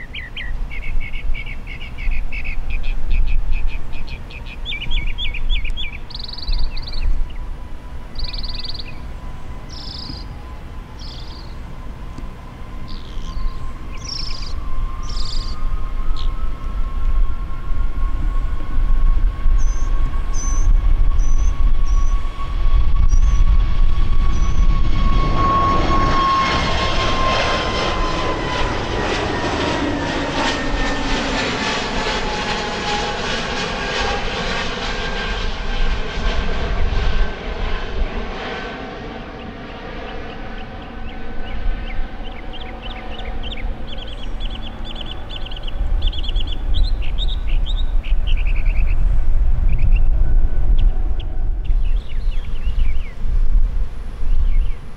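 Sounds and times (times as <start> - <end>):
jet airliner passing: 0.0 - 54.9.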